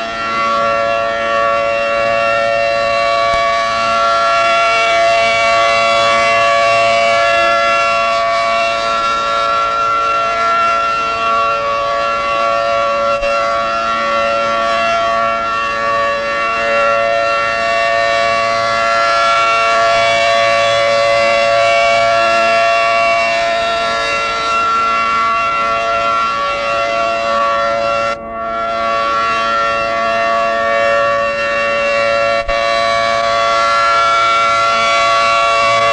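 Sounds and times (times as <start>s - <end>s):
rotating warning siren: 0.0s - 35.9s.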